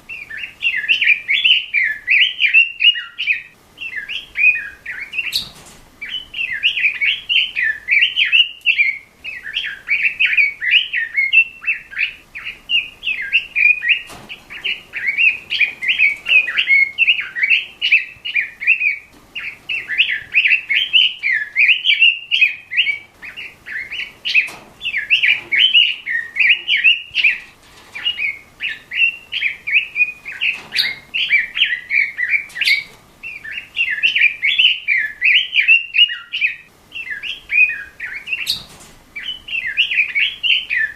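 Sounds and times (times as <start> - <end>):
bird warbling song: 0.0 - 40.9.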